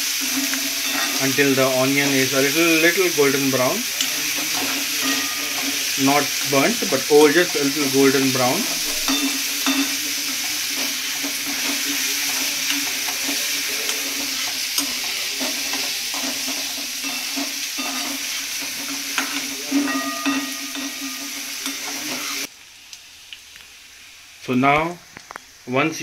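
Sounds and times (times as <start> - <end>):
food sizzling in hot oil: 0.0 - 26.0
spoon stirring and clicking on pan: 0.1 - 22.5.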